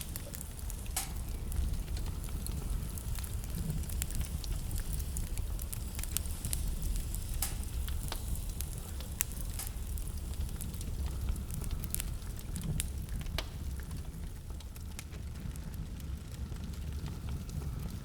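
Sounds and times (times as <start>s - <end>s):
low rumble of fire: 0.0s - 18.0s
wood fire crackling: 0.0s - 18.0s.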